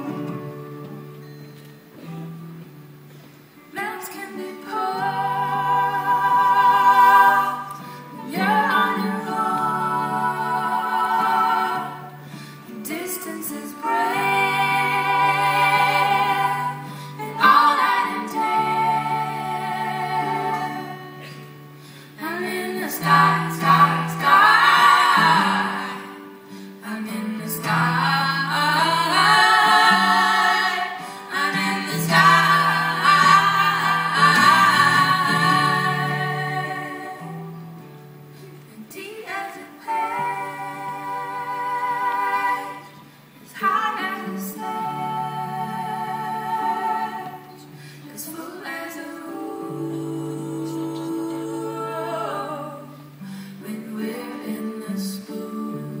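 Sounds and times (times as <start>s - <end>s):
women singing together: 3.7s - 56.0s.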